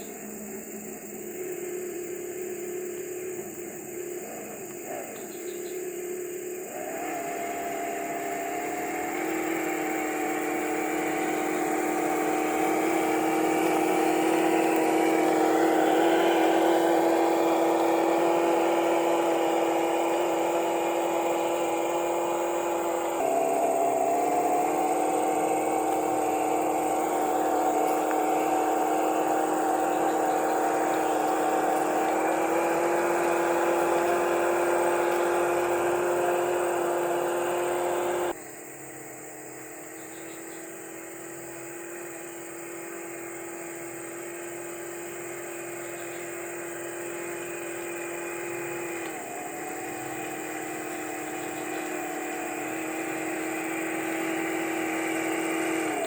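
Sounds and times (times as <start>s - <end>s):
electric motor and gear whining: 0.0s - 56.0s.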